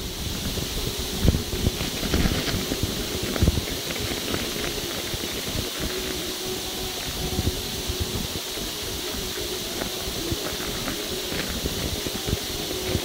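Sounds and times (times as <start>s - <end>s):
bicycle tyre rumble on ice: 0.0s - 13.0s
bike knocking and rattling: 0.0s - 13.0s
wind on microphone: 0.0s - 13.0s.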